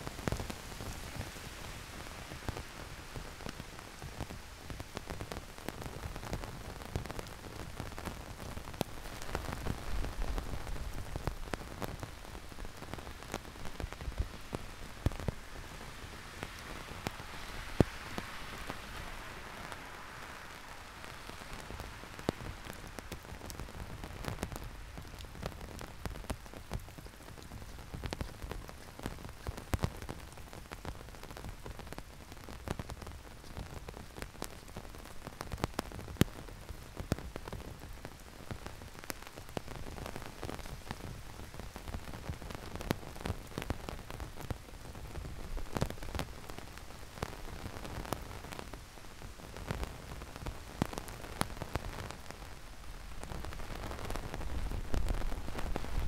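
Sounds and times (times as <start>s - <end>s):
heavy rain falling: 0.0s - 56.0s
raindrops tapping close by: 0.0s - 56.0s.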